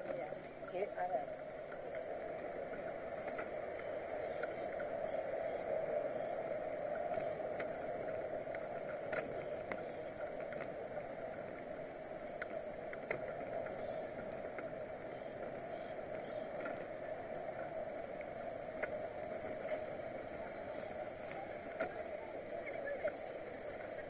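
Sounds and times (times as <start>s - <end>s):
bicycle rolling on paved road: 0.0s - 24.0s
small clicks and rattles: 0.0s - 24.0s.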